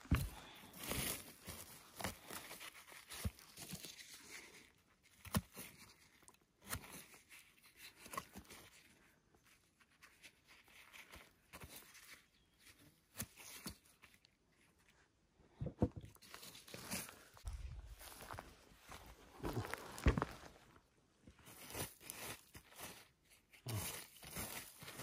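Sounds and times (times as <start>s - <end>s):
dry leaves and twigs crunching: 0.0s - 14.9s, 16.1s - 25.0s.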